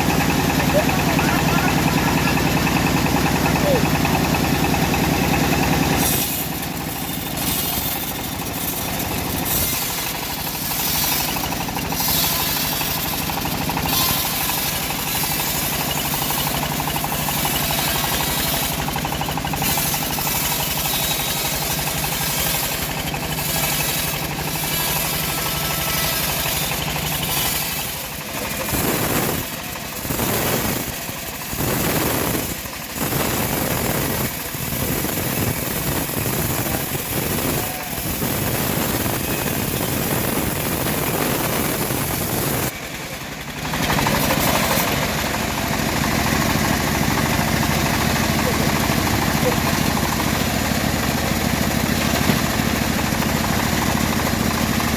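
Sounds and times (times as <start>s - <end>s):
saw blade rasping through log: 0.0s - 42.8s, 43.9s - 45.2s
engine humming: 0.0s - 54.9s.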